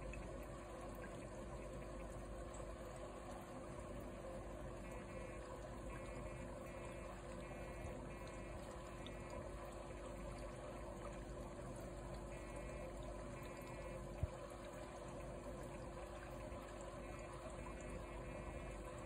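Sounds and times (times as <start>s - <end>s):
aquarium water trickling: 0.0s - 19.0s
low filter hum: 0.0s - 19.0s.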